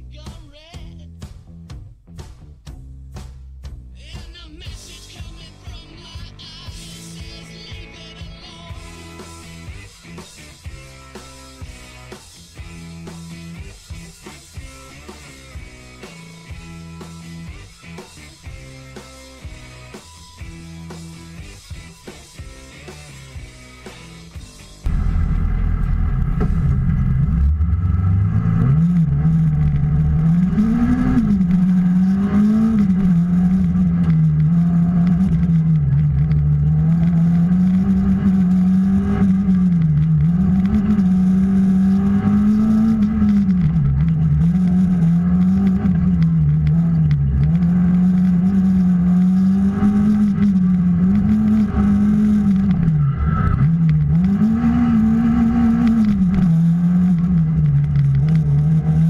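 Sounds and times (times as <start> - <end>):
car engine revving: 8.4 - 59.0.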